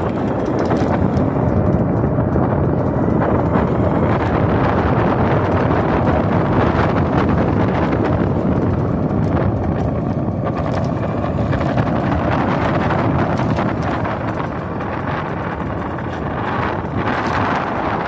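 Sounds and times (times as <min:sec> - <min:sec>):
vehicle ride noise: 0:00.0 - 0:18.0
wind rumbling on microphone: 0:00.0 - 0:18.0.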